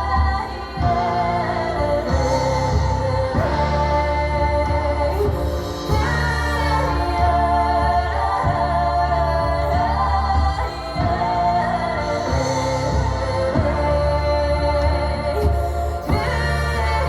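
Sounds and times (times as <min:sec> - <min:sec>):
song with singing and heavy bass: 0:00.0 - 0:17.0.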